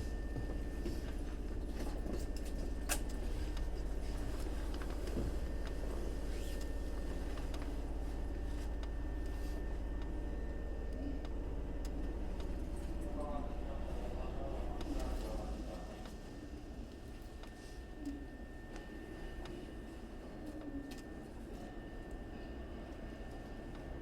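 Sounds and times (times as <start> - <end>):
low hum of train equipment: 0.0 - 24.0.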